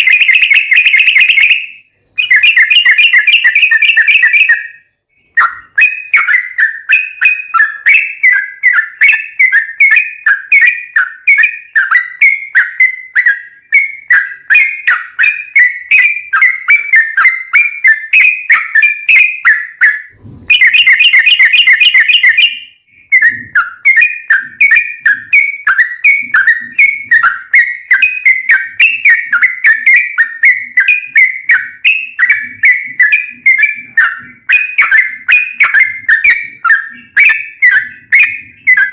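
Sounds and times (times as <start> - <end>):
bird singing rapid chirps: 0.0 - 38.9.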